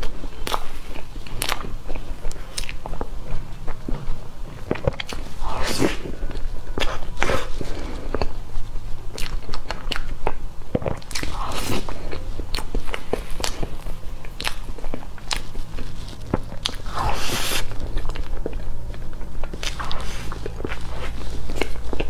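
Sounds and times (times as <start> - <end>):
wet mouth smacks and chewing: 0.0 - 7.5, 9.1 - 22.0
low hum: 0.0 - 22.0.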